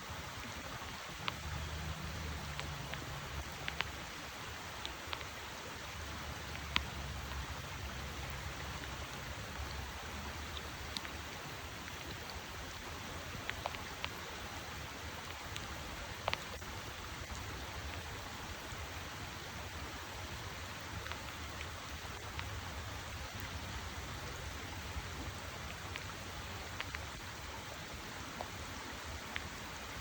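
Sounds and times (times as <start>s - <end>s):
rushing water: 0.0s - 30.0s
faint ticks: 0.1s - 30.0s.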